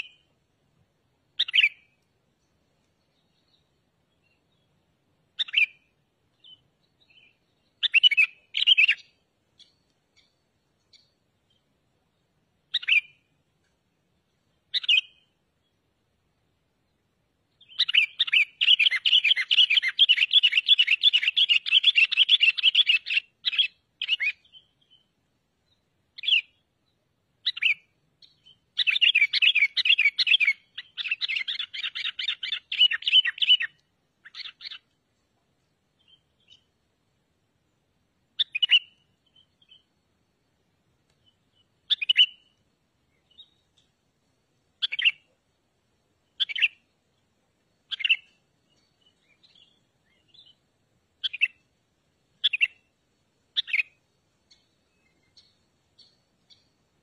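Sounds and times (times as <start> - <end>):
songbird chirping and chattering: 0.0 - 0.4, 1.3 - 57.0.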